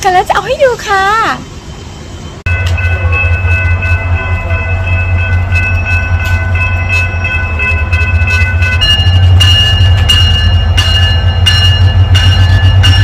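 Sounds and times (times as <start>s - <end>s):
train rumbling: 0.0s - 13.0s
high warning tones: 1.6s - 13.0s.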